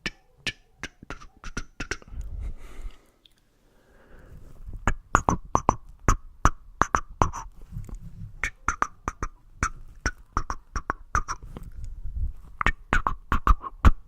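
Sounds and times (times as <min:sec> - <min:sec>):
mouth clicks and pops: 0:00.0 - 0:03.5, 0:04.7 - 0:14.0.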